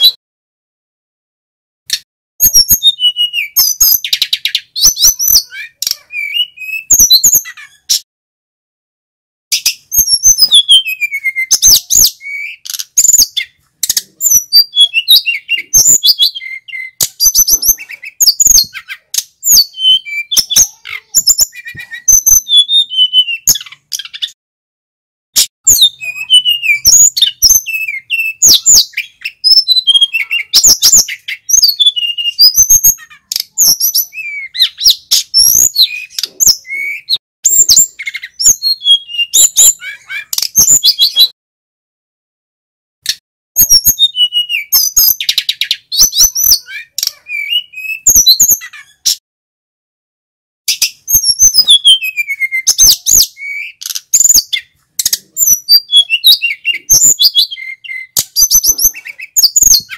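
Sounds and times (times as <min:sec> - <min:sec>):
bird singing whistles and trills: 0:02.4 - 0:08.0, 0:09.5 - 0:24.4, 0:25.6 - 0:41.4, 0:43.6 - 0:49.2, 0:50.7 - 0:59.9.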